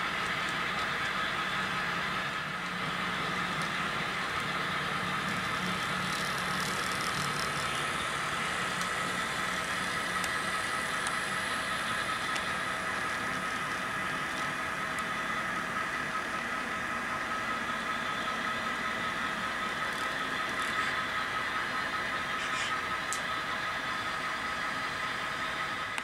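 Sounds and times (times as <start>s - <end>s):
diesel locomotive engine from speaker: 0.0s - 26.0s
model train ticking on track: 0.0s - 26.0s.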